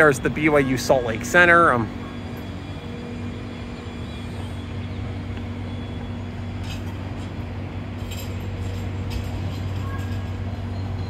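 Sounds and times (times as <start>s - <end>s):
light rail train rolling: 0.0s - 11.0s
road traffic: 0.0s - 11.0s.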